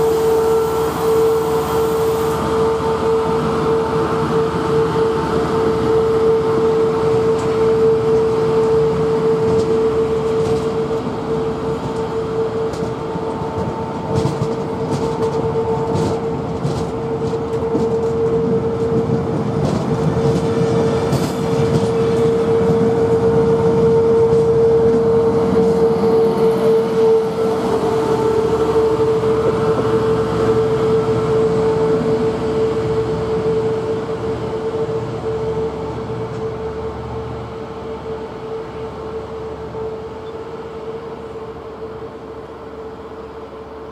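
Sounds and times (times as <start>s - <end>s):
train wheels rumbling over rail joints: 0.0s - 43.9s.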